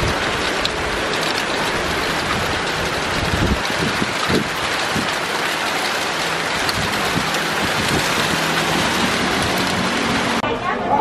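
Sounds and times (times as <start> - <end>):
heavy rain on road and tarpaulin: 0.0 - 11.0.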